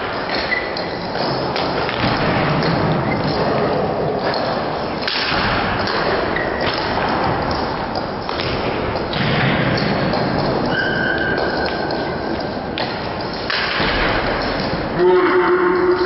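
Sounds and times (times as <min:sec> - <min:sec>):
echoing hall noise: 0:00.0 - 0:16.0.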